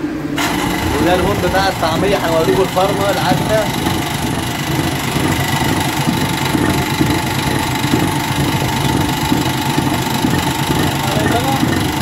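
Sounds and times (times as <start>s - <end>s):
mixer motor hum and whir: 0.0s - 12.0s.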